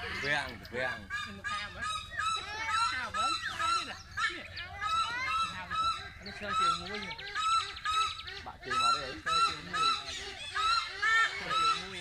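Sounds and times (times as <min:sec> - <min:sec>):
loud honking bird calls: 0:00.0 - 0:12.0
soft wavering bird calls: 0:00.0 - 0:12.0.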